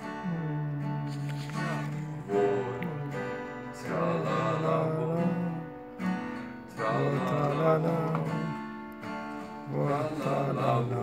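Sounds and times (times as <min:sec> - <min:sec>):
man singing: 0:00.0 - 0:06.0, 0:06.6 - 0:08.6, 0:09.6 - 0:11.0
acoustic guitar strumming: 0:00.0 - 0:11.0.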